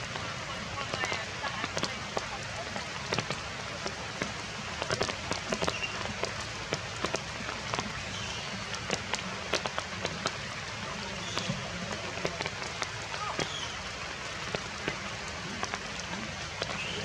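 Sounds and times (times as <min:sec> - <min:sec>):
heavy rain falling: 0:00.0 - 0:17.0
raindrops tapping: 0:00.0 - 0:17.0.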